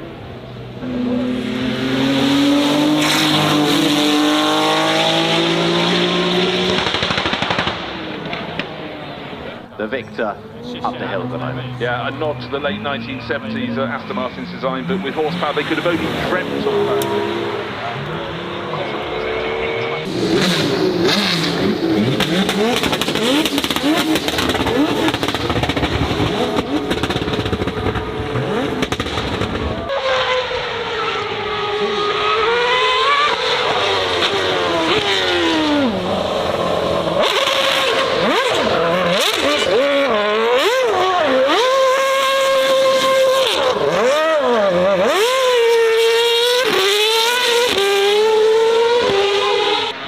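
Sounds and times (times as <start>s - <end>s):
racing car engine at full throttle: 0.0s - 50.0s.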